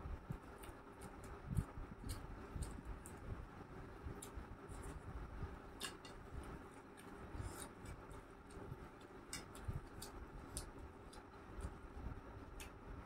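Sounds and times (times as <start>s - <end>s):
faint chewing and mouth clicks: 0.3s - 12.8s
fingers mixing rice on steel plate: 0.3s - 12.9s.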